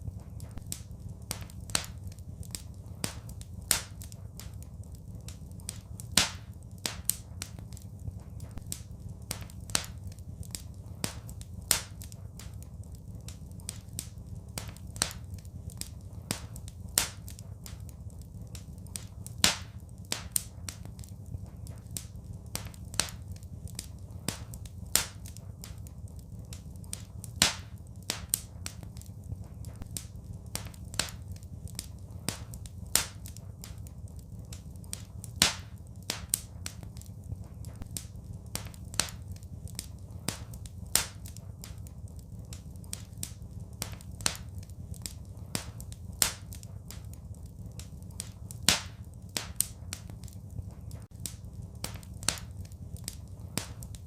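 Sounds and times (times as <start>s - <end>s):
low rumble: 0.0s - 54.0s
wood fire crackling: 0.0s - 54.0s.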